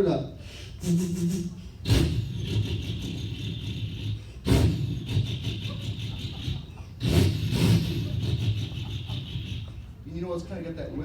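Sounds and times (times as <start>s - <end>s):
man imitating diesel engine: 0.8s - 10.2s.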